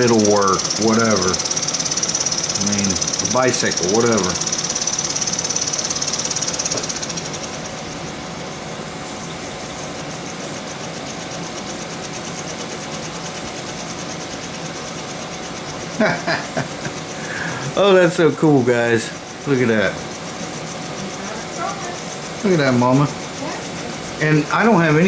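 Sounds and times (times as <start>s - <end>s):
toy steam engine chuffing: 0.0s - 25.0s.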